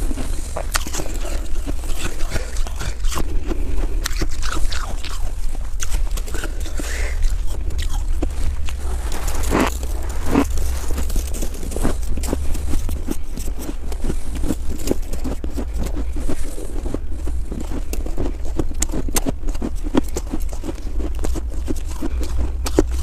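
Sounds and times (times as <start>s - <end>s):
biting and chewing snowball: 0.0s - 23.0s
steady low rumble: 0.0s - 23.0s.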